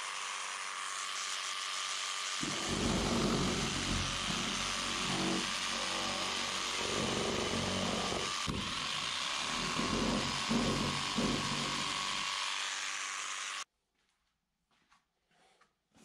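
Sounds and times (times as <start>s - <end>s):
jigsaw cutting plastic: 0.0s - 13.7s.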